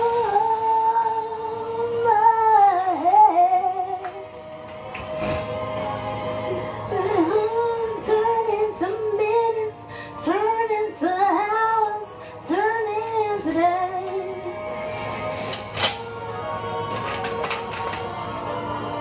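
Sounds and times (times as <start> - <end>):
song with singing voice: 0.0 - 19.0.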